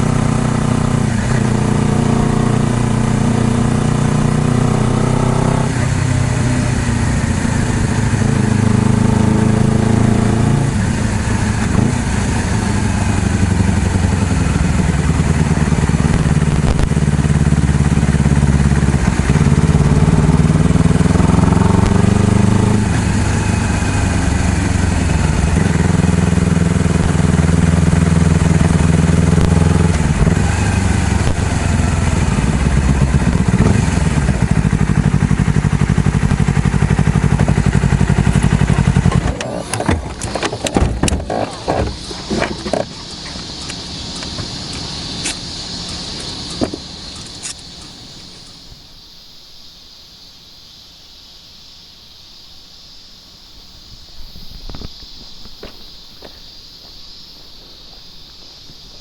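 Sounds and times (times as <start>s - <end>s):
motorcycle engine accelerating: 0.0s - 48.8s.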